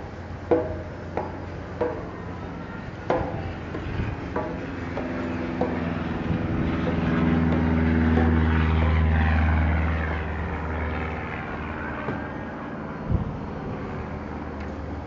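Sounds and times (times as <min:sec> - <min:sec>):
low engine-like drone: 0:00.0 - 0:15.0.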